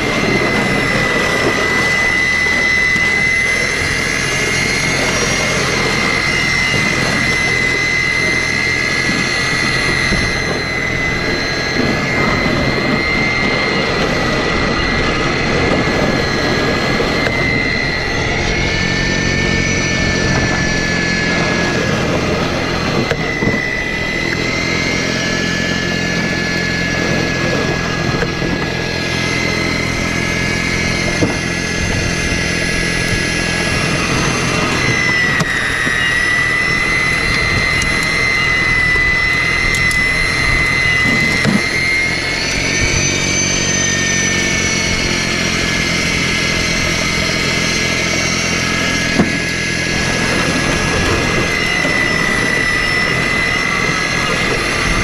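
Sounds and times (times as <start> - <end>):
snowblower motor whining: 0.0 - 55.0.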